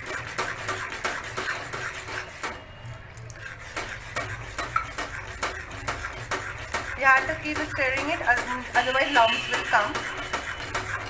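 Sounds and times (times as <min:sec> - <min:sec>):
spoon scraping a cooking pan: 0:00.0 - 0:11.0.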